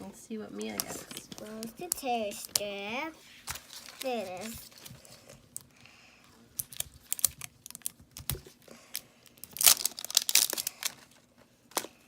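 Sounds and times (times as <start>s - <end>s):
plastic wrapping crinkling and tearing: 0.6s - 5.7s, 6.5s - 12.0s.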